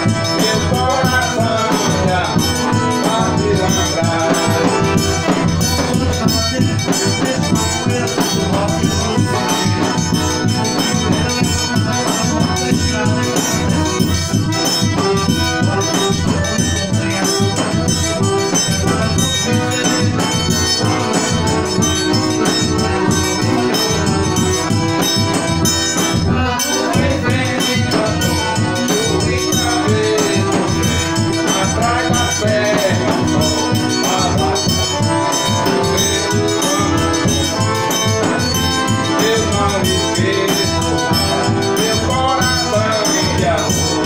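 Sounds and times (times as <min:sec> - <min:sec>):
accordion: 0:00.0 - 0:44.0
shaken percussion: 0:00.0 - 0:44.0.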